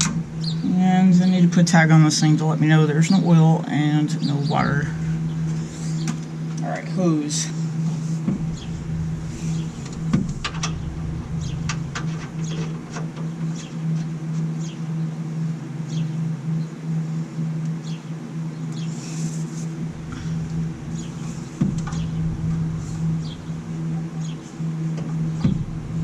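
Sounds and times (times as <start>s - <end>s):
low pulsing hum: 0.0s - 26.0s.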